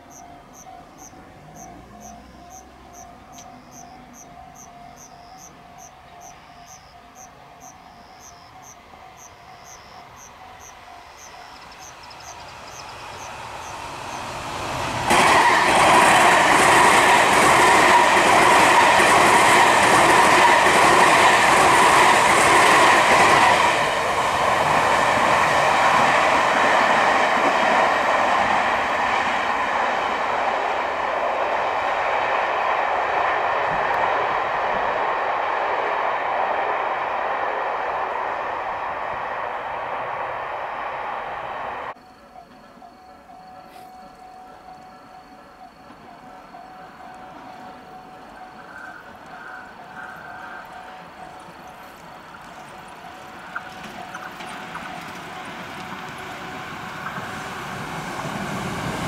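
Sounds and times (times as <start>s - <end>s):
crickets chirping: 0.0s - 33.2s, 37.8s - 59.0s
train passing with wheel clatter: 0.0s - 59.0s.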